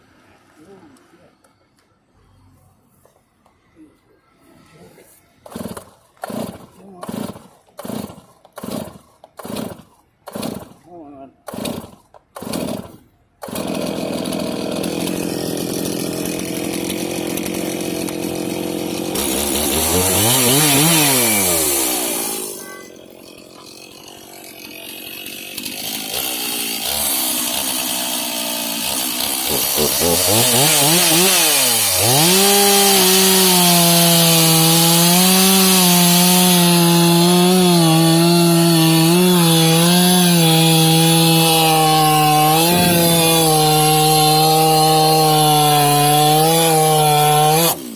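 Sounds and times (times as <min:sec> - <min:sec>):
chainsaw revving and cutting log: 0:05.4 - 0:10.8, 0:11.5 - 0:47.9.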